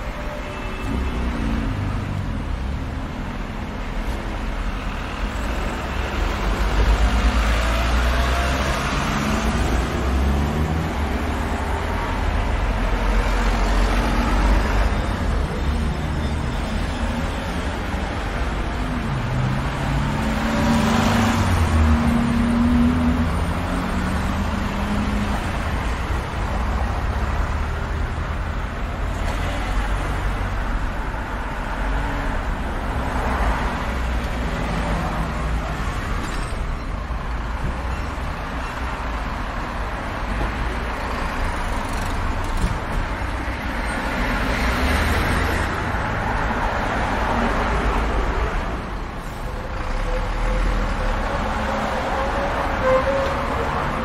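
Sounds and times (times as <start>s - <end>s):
car engines and tyre noise: 0.0s - 54.0s.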